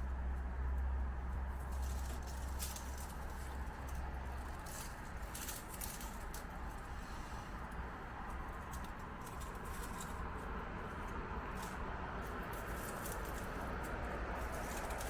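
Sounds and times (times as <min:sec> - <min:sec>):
road traffic hiss and rumble: 0:00.0 - 0:15.0.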